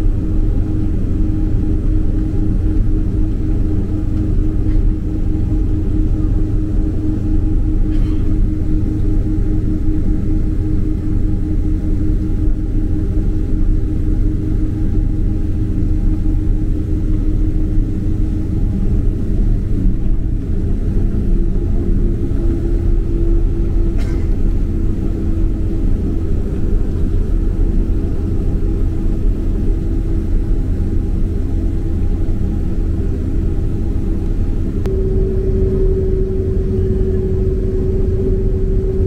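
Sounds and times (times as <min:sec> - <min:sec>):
airplane engines rumbling in cabin: 0:00.0 - 0:39.0
steady hum: 0:00.0 - 0:39.0.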